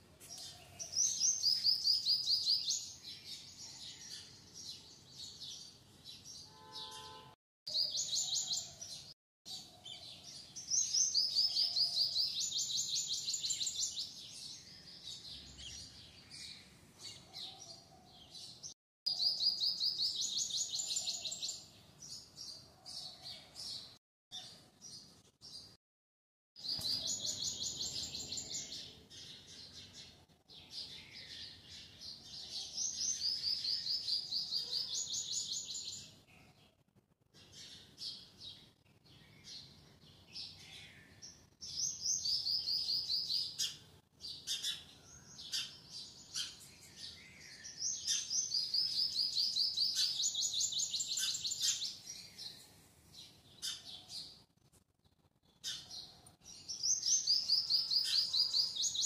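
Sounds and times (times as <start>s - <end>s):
songbird chirping: 0.0s - 25.8s, 26.6s - 36.8s, 37.4s - 59.0s.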